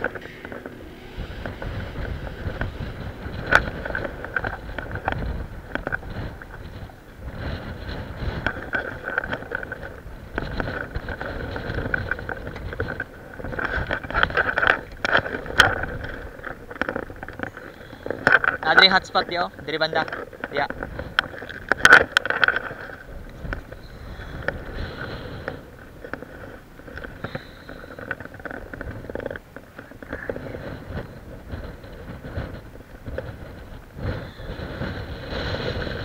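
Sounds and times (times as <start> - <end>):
sharp clicks and rattles: 0.0 - 36.0
wind buffeting microphone: 0.0 - 36.0.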